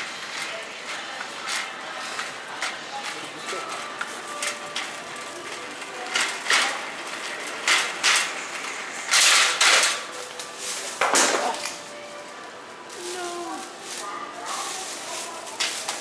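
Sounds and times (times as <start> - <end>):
shopping cart rattling: 0.0 - 16.0.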